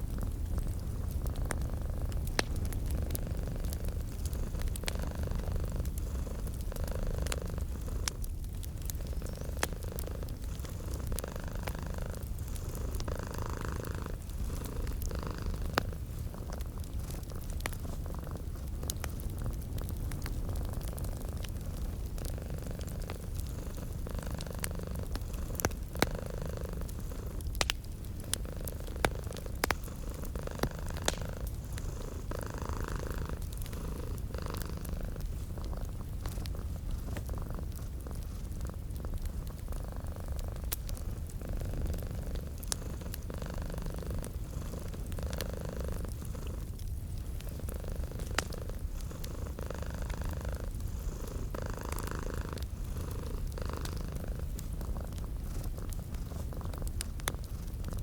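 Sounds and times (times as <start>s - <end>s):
cat purring: 0.0s - 58.0s
wood fire crackling and popping: 0.0s - 58.0s.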